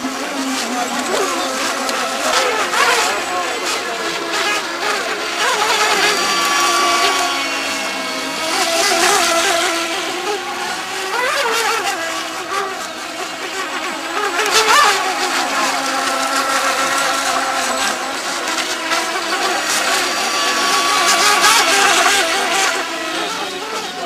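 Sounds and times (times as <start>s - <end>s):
electric model boats whining: 0.0s - 24.0s.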